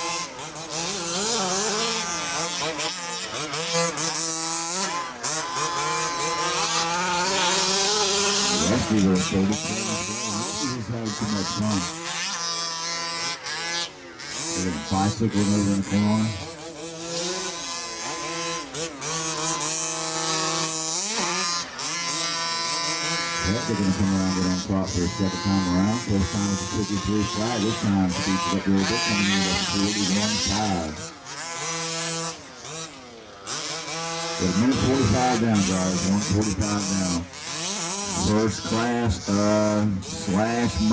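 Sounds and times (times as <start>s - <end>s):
small two-stroke engines revving: 0.0s - 40.9s.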